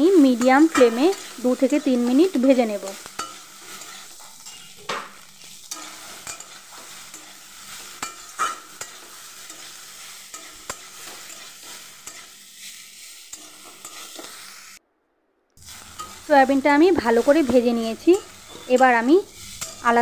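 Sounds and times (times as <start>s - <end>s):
food sizzling in oil: 0.0s - 14.8s, 15.6s - 20.0s
metal spatula scraping a pan: 0.0s - 14.8s, 15.6s - 20.0s.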